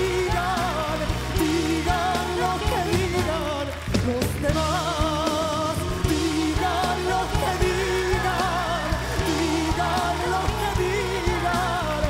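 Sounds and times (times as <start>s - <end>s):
live band with steady beat: 0.0s - 12.0s
man singing with vibrato: 0.0s - 12.0s.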